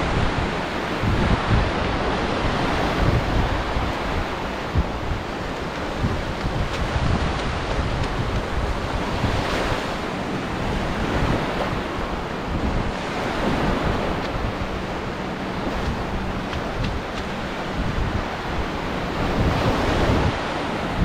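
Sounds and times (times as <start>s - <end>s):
sea waves breaking on beach: 0.0s - 21.0s
wind buffeting microphone: 0.0s - 21.0s.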